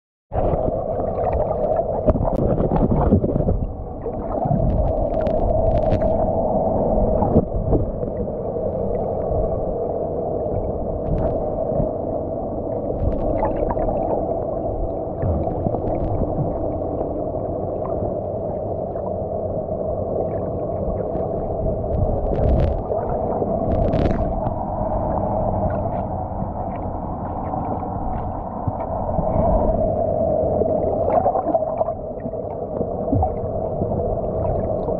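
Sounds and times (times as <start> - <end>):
rumbling water noise: 0.3 - 34.9
underwater boat engine hum: 0.3 - 34.9.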